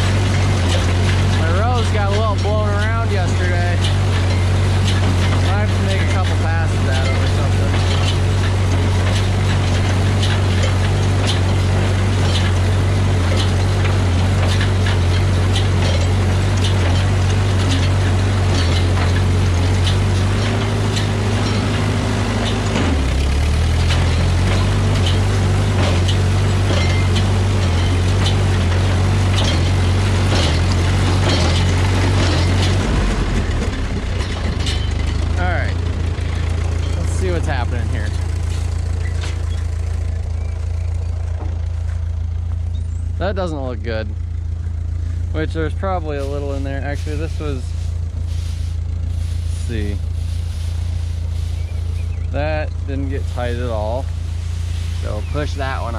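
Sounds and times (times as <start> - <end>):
baler clacking and clattering: 0.0 - 55.9
tractor engine running: 0.0 - 55.9.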